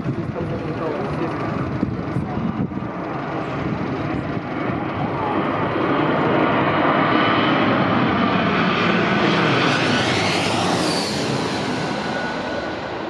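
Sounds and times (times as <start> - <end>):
jet engine passing overhead: 0.0 - 13.0.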